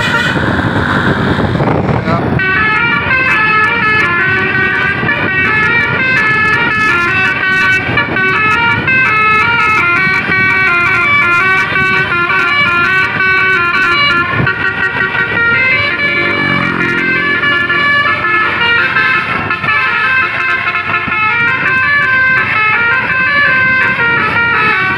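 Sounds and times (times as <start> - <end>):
bus melody horn playing a tune: 0.0 - 24.9
traffic rumble: 0.0 - 24.9.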